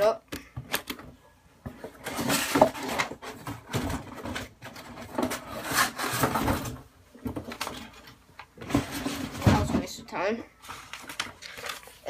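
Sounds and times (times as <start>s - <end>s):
box and packaging rustling: 0.5s - 12.0s.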